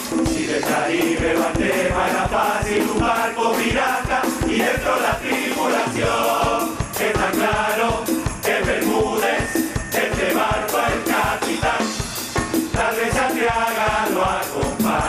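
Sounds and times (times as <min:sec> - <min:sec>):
drums and cymbals beat: 0:00.0 - 0:15.0
chorus singing together: 0:00.1 - 0:15.0.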